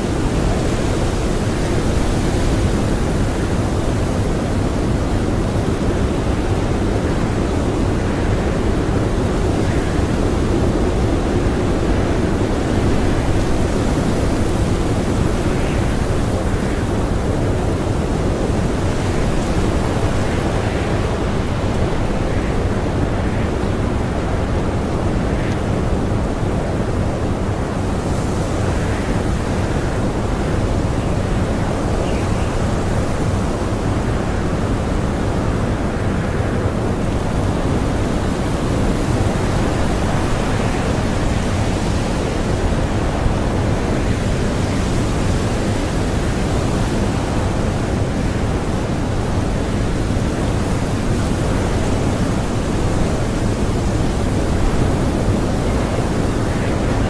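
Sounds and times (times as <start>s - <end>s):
blizzard wind blowing: 0.0s - 57.0s.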